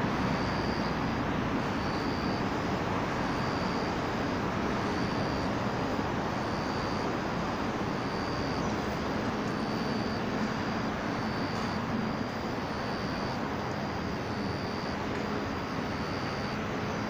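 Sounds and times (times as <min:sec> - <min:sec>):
urban background rumble: 0:00.0 - 0:17.0.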